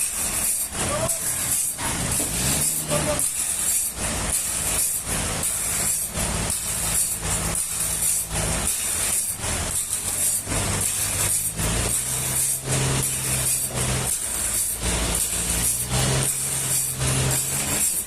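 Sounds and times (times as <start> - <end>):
pulsing hissing noise: 0.0 - 18.0
sawmill engine hum: 0.0 - 18.0.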